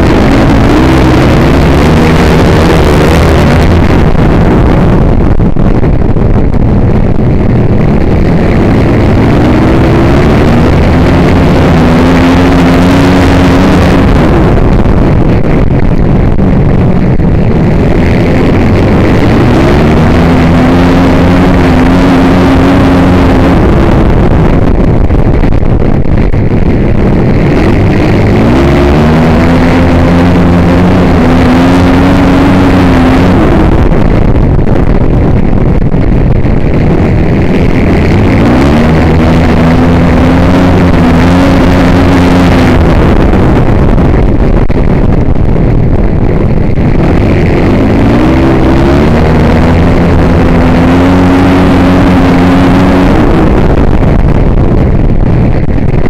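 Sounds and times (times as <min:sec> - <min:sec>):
racing motorcycle engine accelerating: 0:00.0 - 0:56.0.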